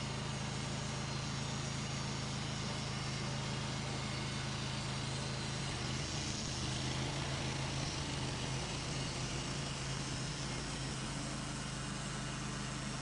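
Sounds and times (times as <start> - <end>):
sawmill engine droning: 0.0 - 13.0.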